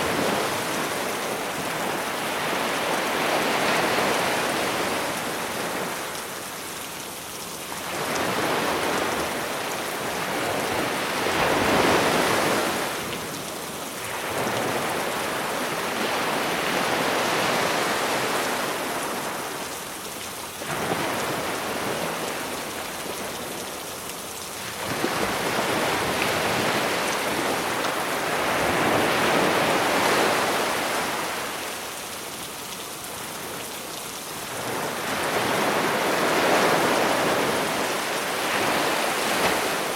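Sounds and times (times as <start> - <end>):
sea waves on a beach: 0.0 - 39.9.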